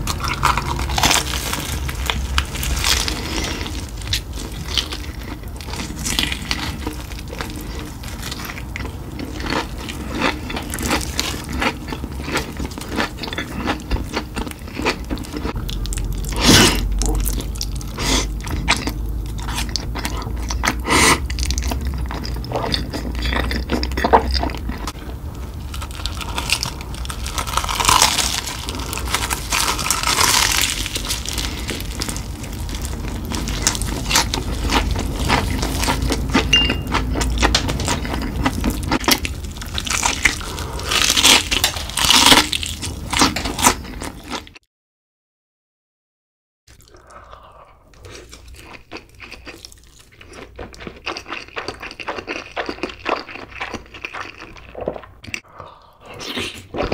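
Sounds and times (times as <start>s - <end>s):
crunching and chewing fried chicken: 0.0s - 44.6s, 46.7s - 56.9s.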